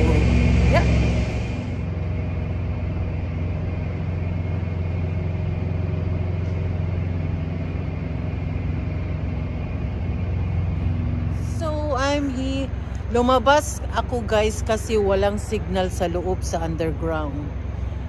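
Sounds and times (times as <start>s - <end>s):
faint hum: 0.0s - 18.0s
machinery low rumble: 0.0s - 18.0s.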